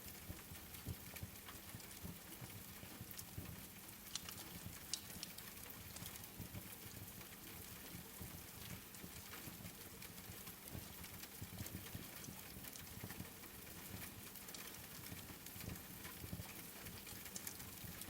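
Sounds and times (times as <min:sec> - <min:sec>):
rain pattering: 0:00.0 - 0:18.0
wood fire crackling: 0:00.1 - 0:18.0.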